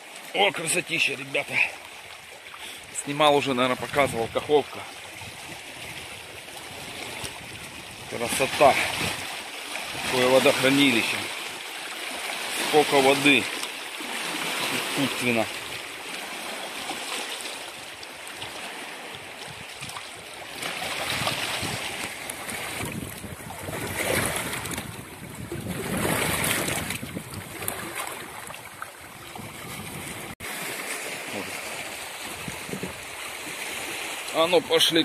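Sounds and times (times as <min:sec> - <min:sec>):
small waves lapping on stone shore: 0:00.0 - 0:35.0.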